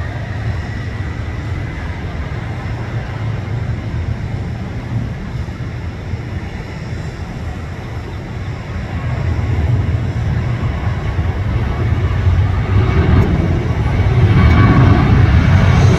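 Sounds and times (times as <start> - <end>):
jet engines roaring at takeoff: 0.0 - 15.9.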